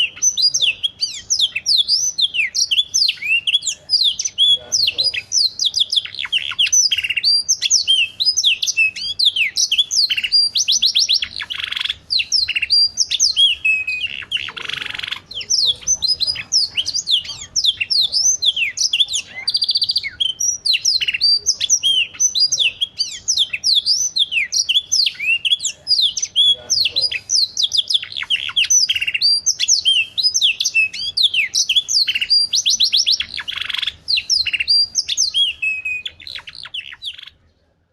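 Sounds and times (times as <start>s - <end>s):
canary singing trills: 0.0s - 37.7s.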